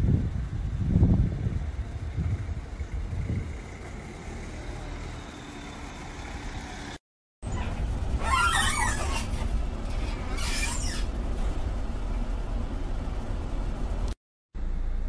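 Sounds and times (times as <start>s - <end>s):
ambulance engine rumble: 0.0s - 15.0s.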